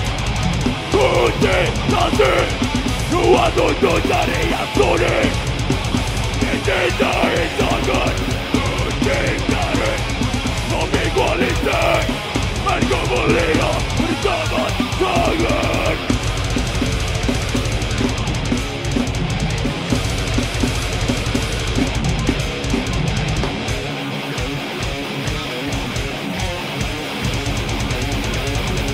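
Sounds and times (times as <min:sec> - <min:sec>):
death metal band playing: 0:00.0 - 0:28.9.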